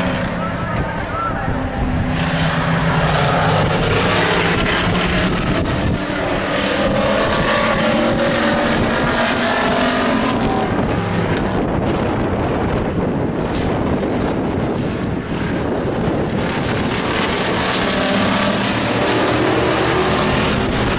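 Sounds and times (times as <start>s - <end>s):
race truck engines passing: 0.0s - 20.9s
wind buffeting microphone: 0.0s - 20.9s.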